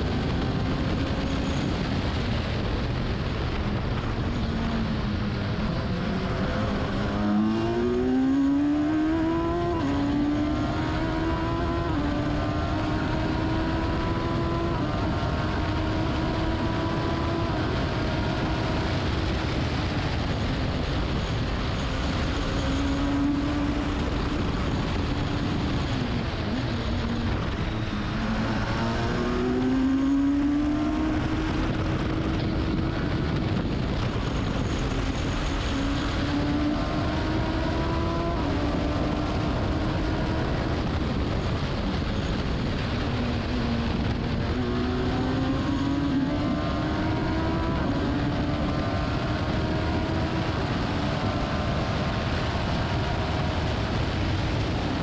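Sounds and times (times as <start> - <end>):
wind and road noise: 0.0 - 55.0
race car engine accelerating: 3.9 - 55.0.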